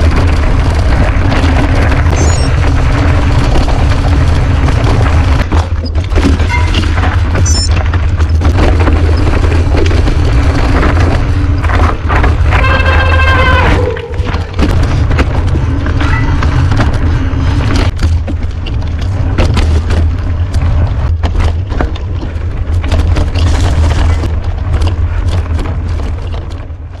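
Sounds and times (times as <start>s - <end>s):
bike rattling clicks and knocks: 0.0s - 27.0s.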